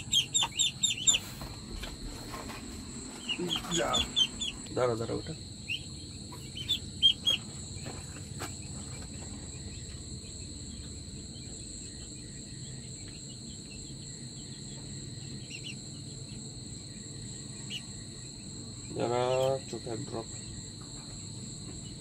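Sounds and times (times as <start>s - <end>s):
chick peeping: 0.0s - 16.4s, 17.5s - 20.2s
high-pitched insect chorus: 0.0s - 22.0s.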